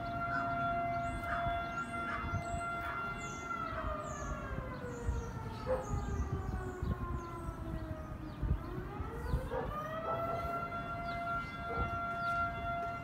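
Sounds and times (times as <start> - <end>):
emergency siren: 0.0 - 13.0.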